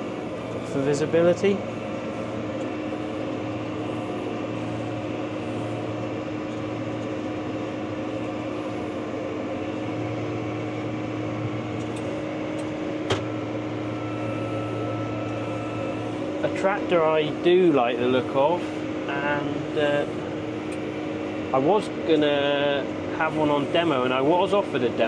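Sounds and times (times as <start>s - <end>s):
tractor engine and baler droning: 0.0s - 25.0s.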